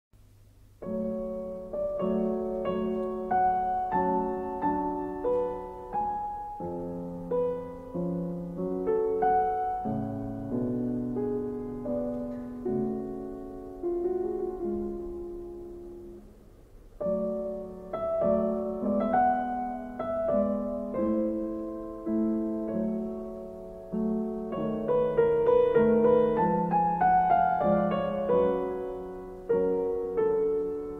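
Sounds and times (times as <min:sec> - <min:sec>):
slow gentle solo piano: 0:00.4 - 0:30.9.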